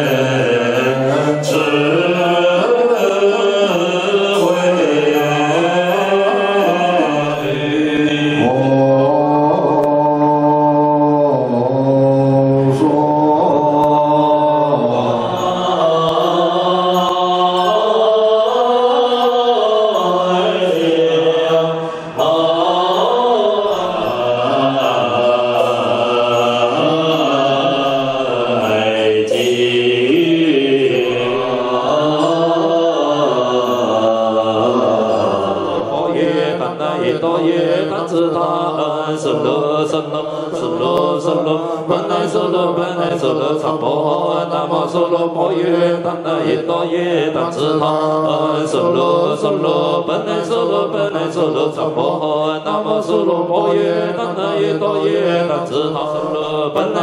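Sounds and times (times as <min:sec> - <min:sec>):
voices chanting in unison: 0:00.0 - 0:57.0.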